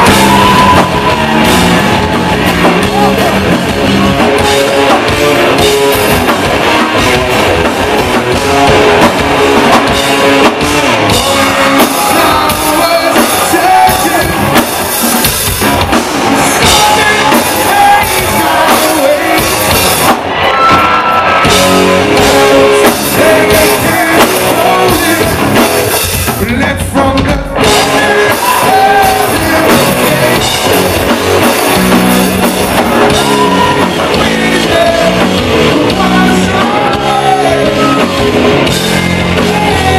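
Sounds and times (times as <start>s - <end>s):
lead vocal singing: 0.0s - 14.9s, 15.9s - 20.4s, 22.0s - 39.9s
live hard rock band playing: 0.0s - 39.9s.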